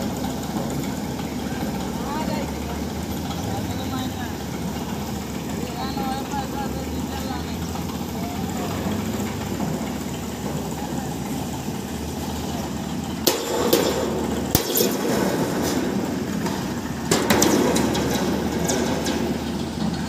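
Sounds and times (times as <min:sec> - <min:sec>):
roll-forming machine humming: 0:00.0 - 0:20.0.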